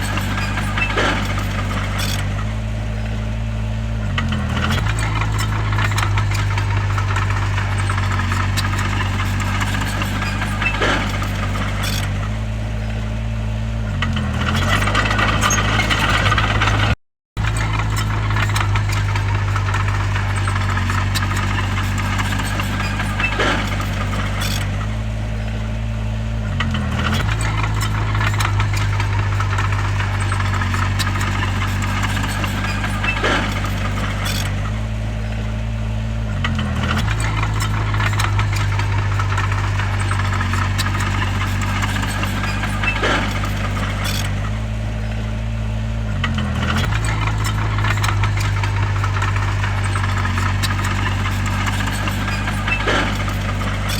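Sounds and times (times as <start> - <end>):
bulldozer diesel engine rattling: 0.0 - 53.9.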